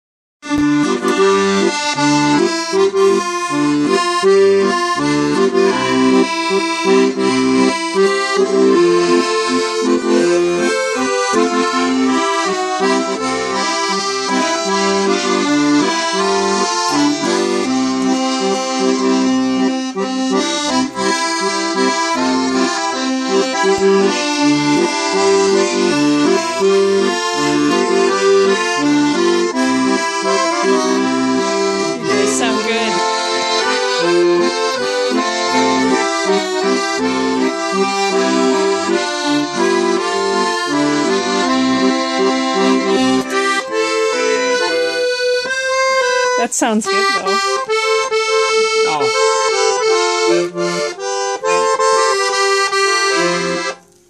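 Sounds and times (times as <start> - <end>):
accordion playing a tune: 0.4 - 54.0.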